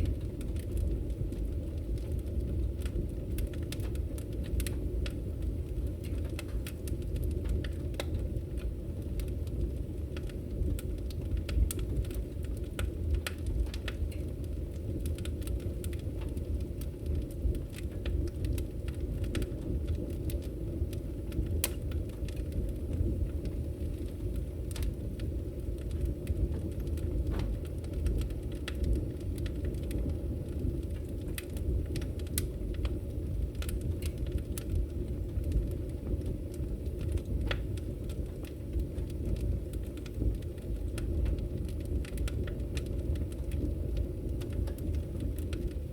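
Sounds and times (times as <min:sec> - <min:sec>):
fire flames roaring: 0:00.0 - 0:45.9
logs crackling and popping: 0:00.0 - 0:45.9.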